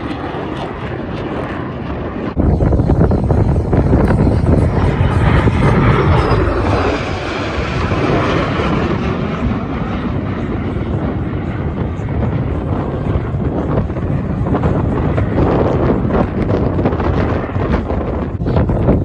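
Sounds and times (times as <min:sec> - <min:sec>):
aircraft engine rumble: 0:00.0 - 0:19.0
wind buffeting microphone: 0:00.0 - 0:19.0.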